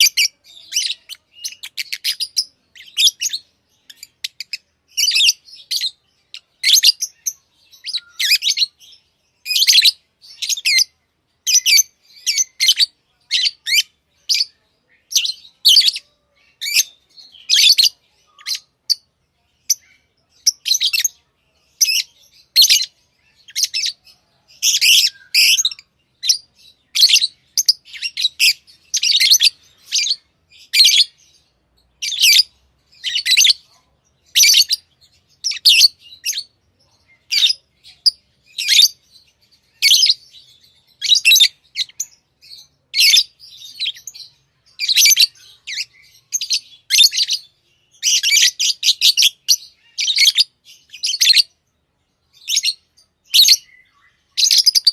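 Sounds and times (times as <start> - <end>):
lovebirds chirping: 0.0 - 54.9.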